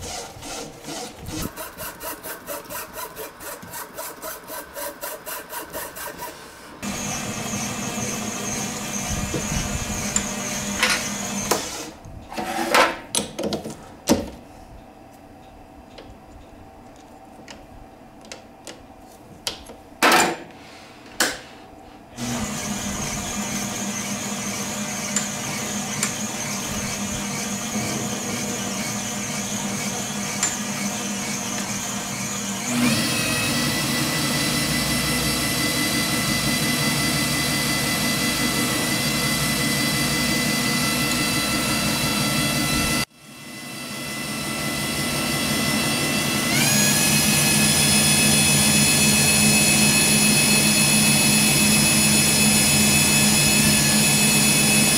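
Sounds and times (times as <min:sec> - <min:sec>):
lathe running with whine: 0:00.0 - 0:11.9, 0:22.2 - 0:54.9.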